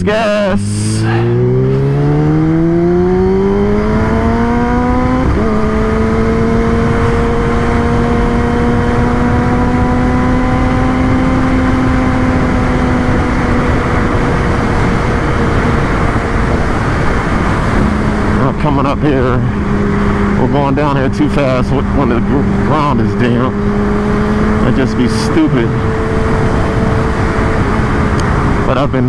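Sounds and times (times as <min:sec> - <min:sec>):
motorcycle engine accelerating: 0:00.0 - 0:29.0
wind noise: 0:00.5 - 0:29.0.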